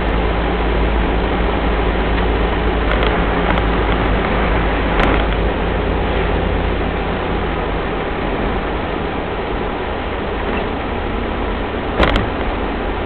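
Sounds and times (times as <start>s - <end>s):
diesel engine drone: 0.0s - 13.0s
road and wind noise: 0.0s - 13.0s.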